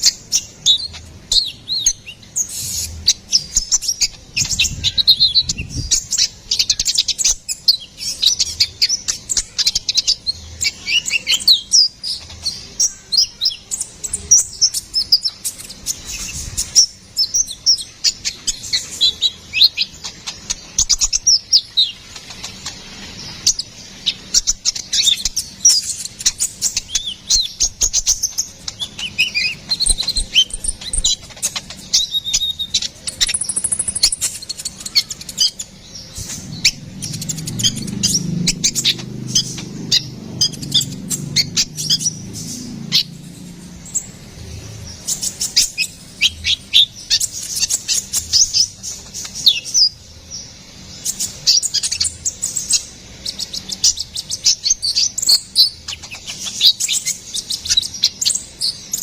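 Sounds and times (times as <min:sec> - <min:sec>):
bird singing high-pitched chirps: 0:00.0 - 0:59.0.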